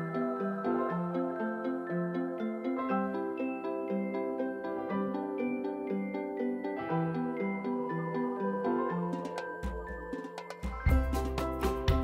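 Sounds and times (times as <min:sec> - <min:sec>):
gentle plucked instrumental music: 0:00.0 - 0:12.0.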